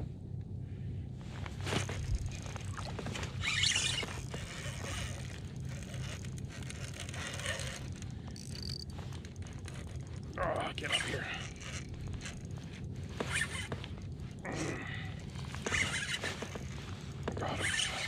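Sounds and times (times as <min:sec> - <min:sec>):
fishing reel clicks and rustles: 0:01.4 - 0:14.4, 0:15.1 - 0:18.0.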